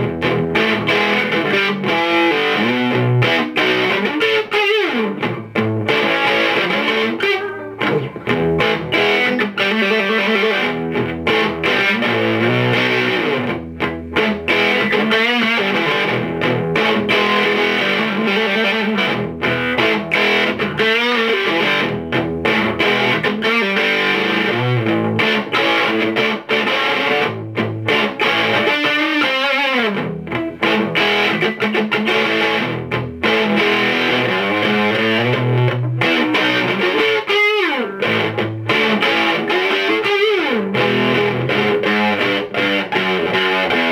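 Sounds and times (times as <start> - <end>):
distorted electric guitar riffs: 0.0 - 43.9.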